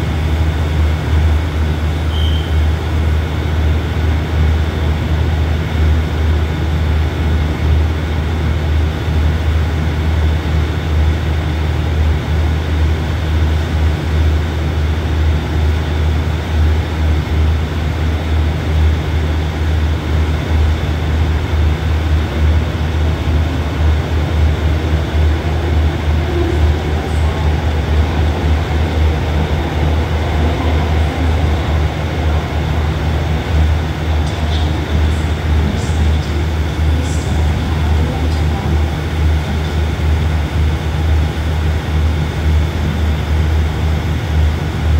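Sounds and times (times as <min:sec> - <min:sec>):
constant hum: 0:00.0 - 0:44.9
idle train low rumble: 0:00.0 - 0:44.9.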